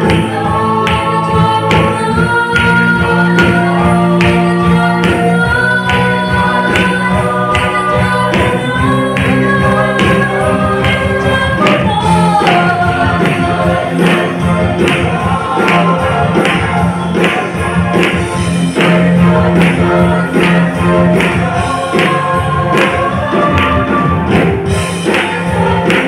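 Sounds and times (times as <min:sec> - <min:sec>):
accompaniment with steady beat: 0:00.0 - 0:26.0
gospel choir singing: 0:00.0 - 0:26.0.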